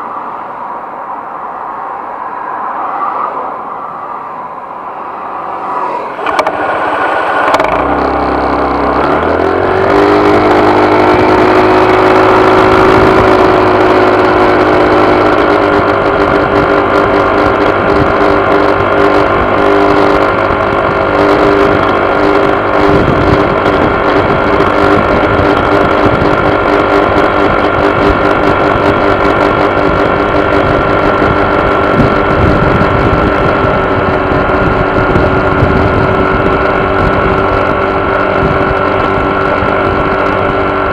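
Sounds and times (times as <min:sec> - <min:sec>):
scooter engine buzzing: 0:00.0 - 0:40.9.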